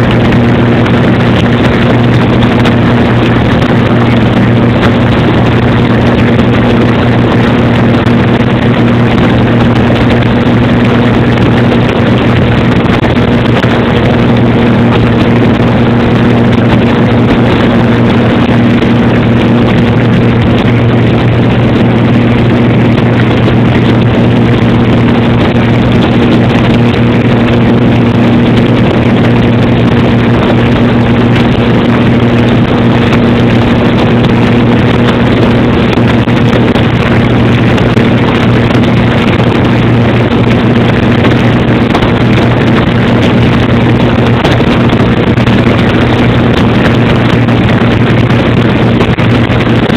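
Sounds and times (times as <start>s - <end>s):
airplane engine drone in cabin: 0.0s - 49.9s.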